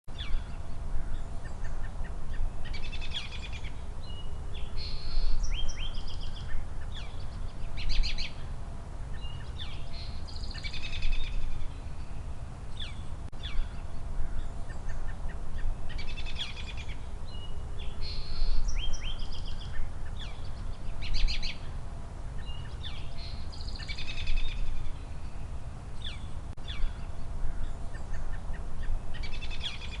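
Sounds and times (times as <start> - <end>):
birds chirping and singing: 0.1 - 30.0.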